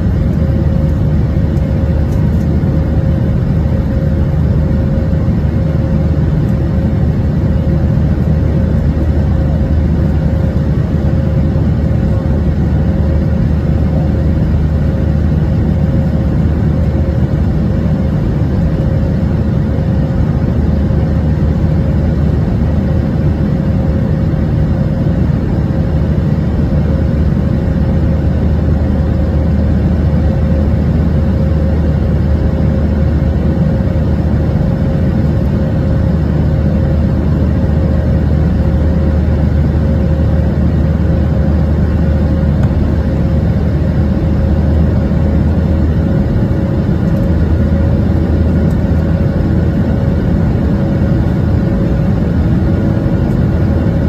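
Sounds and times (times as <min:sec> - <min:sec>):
faint constant hum: 0:00.0 - 0:54.0
jet engines rumbling in cabin: 0:00.0 - 0:54.0.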